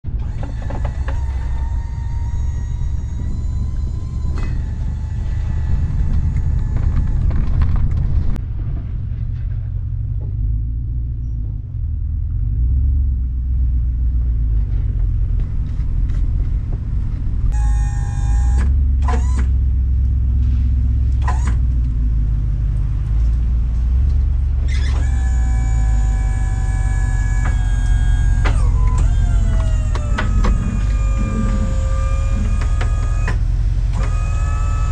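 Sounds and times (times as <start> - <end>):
truck engine and road rumble: 0.0 - 34.9
high steady whine: 0.1 - 8.9, 15.4 - 34.9.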